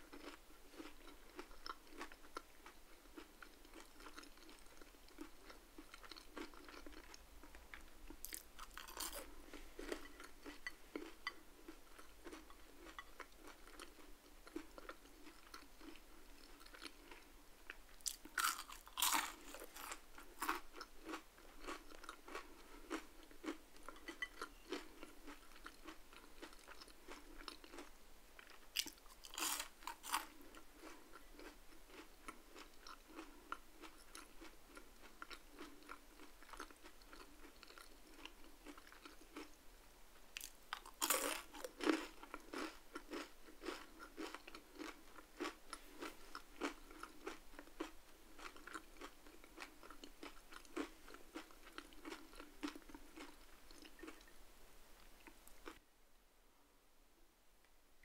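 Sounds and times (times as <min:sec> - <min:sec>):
crunching and chewing fries: 0:00.0 - 0:39.6, 0:40.3 - 0:54.3.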